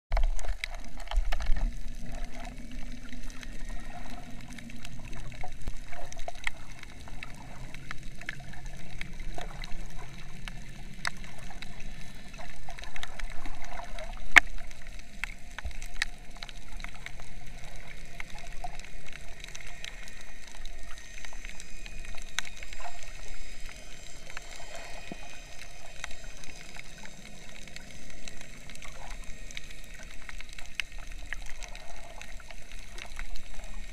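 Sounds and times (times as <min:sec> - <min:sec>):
muffled underwater water wash: 0:00.1 - 0:33.9
sharp underwater clicks: 0:00.1 - 0:33.9.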